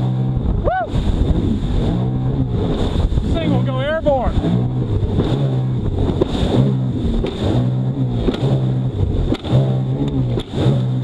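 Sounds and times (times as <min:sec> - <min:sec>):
jet ski engine: 0:00.0 - 0:11.0
rushing water: 0:00.0 - 0:11.0
wind: 0:00.0 - 0:11.0.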